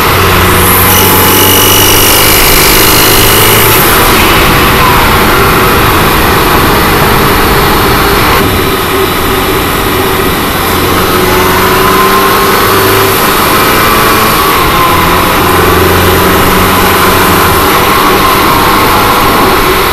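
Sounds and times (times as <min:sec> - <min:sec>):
car engine running under load: 0:00.0 - 0:19.9.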